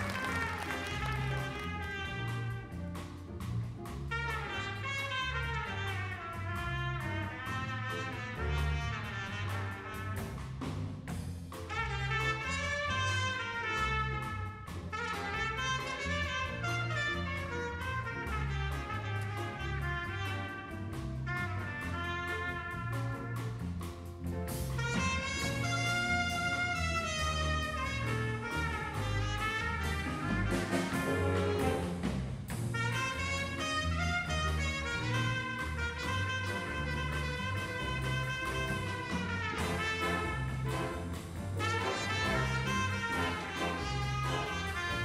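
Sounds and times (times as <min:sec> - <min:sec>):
jazz big band playing: 0:00.0 - 0:45.0.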